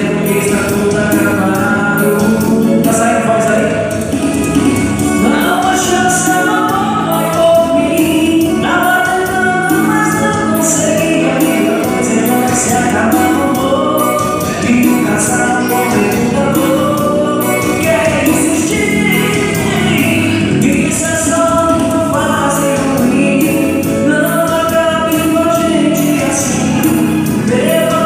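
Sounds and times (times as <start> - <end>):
electronic keyboard: 0.0 - 28.0
man singing into a microphone: 0.0 - 28.0
steady beat: 0.0 - 28.0.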